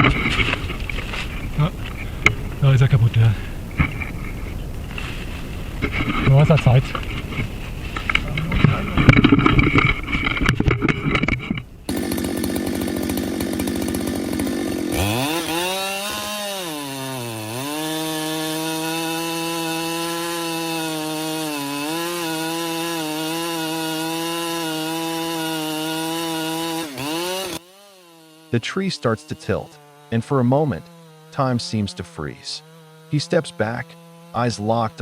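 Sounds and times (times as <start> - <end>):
chainsaw cutting wood: 0.0 - 2.6, 3.7 - 35.0.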